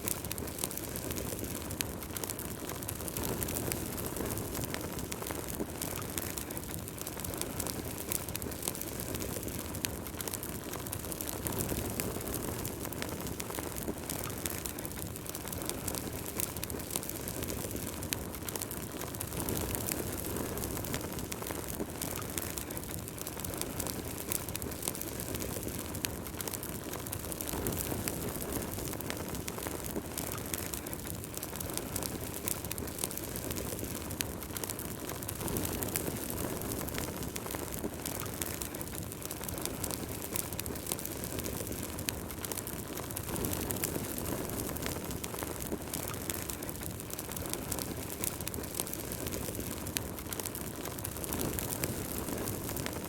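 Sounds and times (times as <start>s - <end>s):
wood crackling and popping: 0.0s - 53.0s
wood fire burning: 0.0s - 53.0s.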